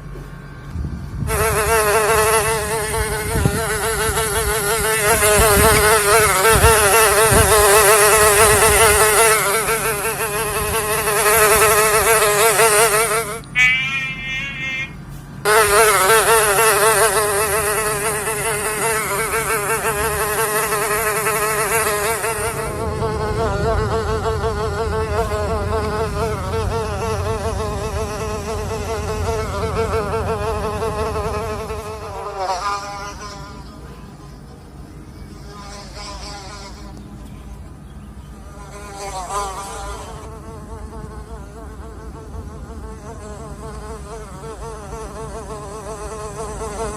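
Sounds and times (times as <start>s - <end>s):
fly buzzing in flight: 1.3s - 33.8s, 35.4s - 37.0s, 38.5s - 46.9s.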